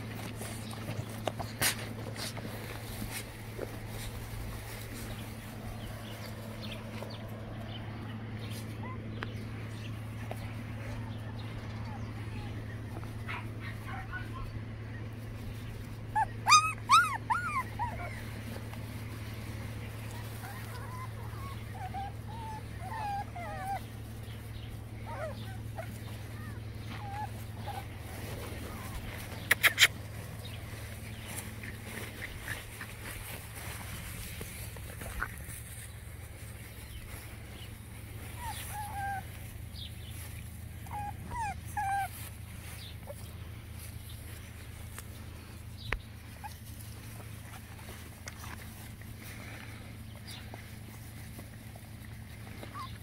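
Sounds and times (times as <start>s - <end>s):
low steady rumble: 0.0s - 53.0s
puppies whimpering and whining: 0.0s - 53.0s.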